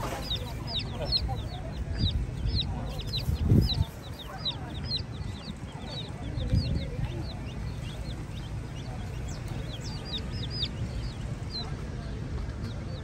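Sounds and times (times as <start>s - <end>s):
hen clucking: 0.0s - 11.8s
chicks peeping: 0.0s - 13.0s.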